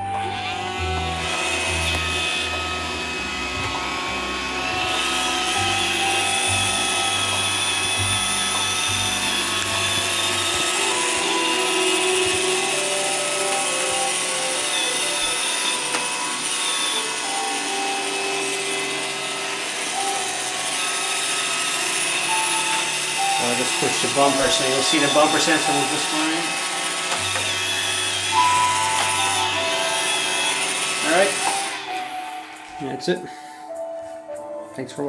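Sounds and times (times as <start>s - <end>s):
robot vacuum motor whine: 0.0s - 34.4s.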